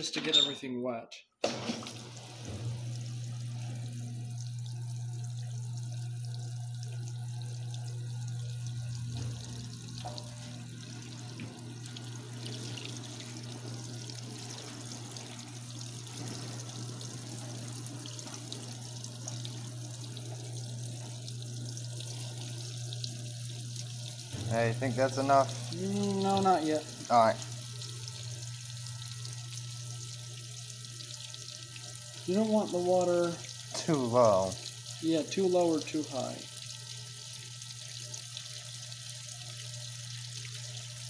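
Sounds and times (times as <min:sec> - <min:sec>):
water pouring into washer tub: 0:01.4 - 0:41.0.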